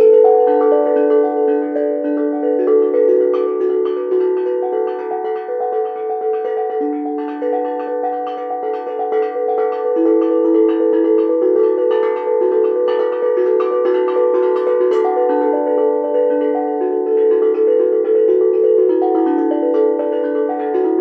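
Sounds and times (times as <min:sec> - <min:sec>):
steel drum notes: 0:00.0 - 0:21.0.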